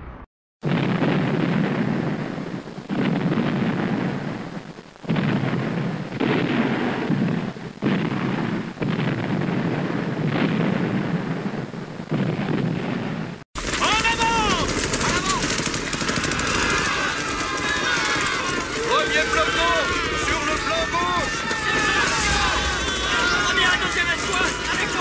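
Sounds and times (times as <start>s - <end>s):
heavy explosions: 0.0s - 25.0s.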